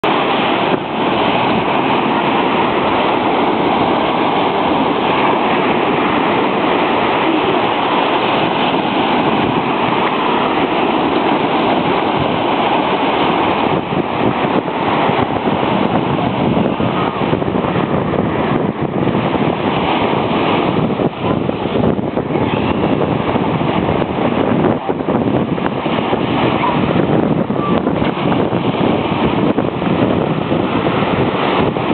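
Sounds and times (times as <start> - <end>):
ocean surf washing onto beach: 0.0 - 31.9
wind buffeting microphone: 0.0 - 31.9.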